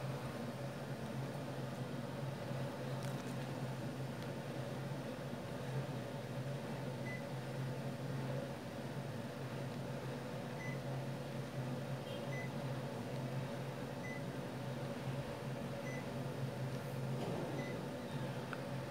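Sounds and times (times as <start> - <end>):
air conditioner fan hum: 0.0 - 18.9.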